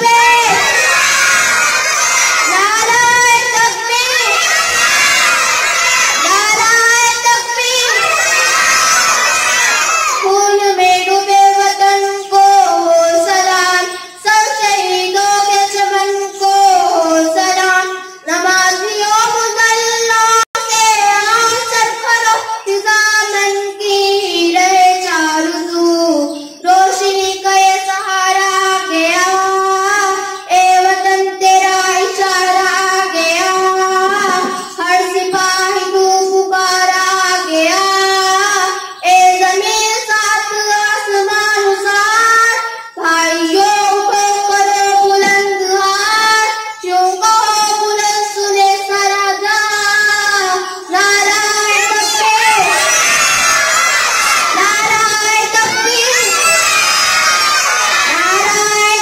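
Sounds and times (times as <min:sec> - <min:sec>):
boy singing into microphone: 0:00.0 - 0:59.0.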